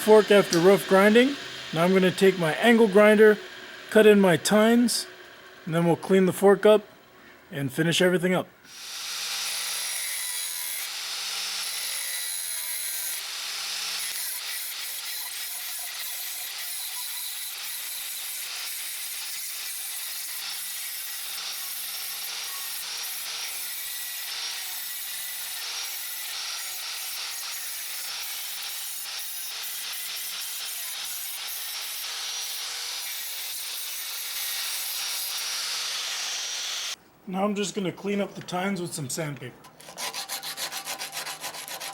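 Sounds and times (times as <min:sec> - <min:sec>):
angle grinder cutting steel: 0:00.0 - 0:05.7, 0:08.7 - 0:37.0, 0:39.7 - 0:41.9.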